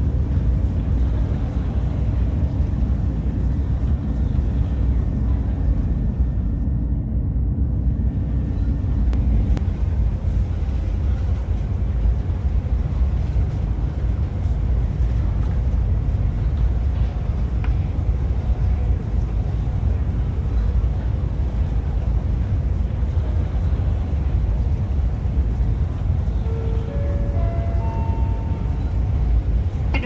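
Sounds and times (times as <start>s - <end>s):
train cabin low rumble: 0.0s - 30.0s.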